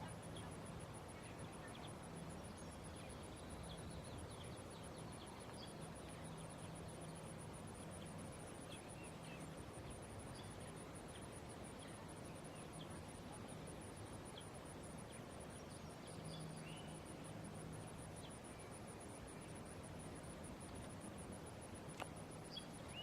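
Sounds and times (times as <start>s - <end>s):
cricket chirping pulses: 0.0s - 23.0s
faint background hiss: 0.0s - 23.0s.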